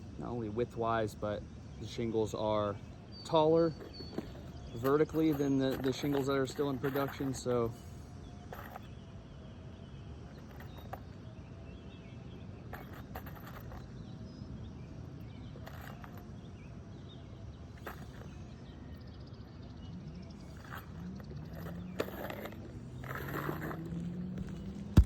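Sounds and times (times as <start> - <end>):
outdoor background noise: 0.0 - 25.0
faint bird chirps: 0.2 - 24.8.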